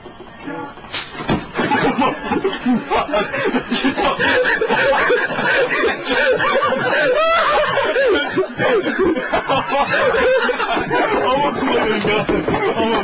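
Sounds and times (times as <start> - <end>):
people laughing: 1.5 - 13.0.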